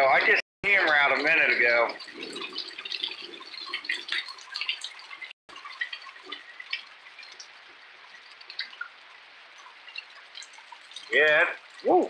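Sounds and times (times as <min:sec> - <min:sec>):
raindrops splashing: 0:00.0 - 0:12.0.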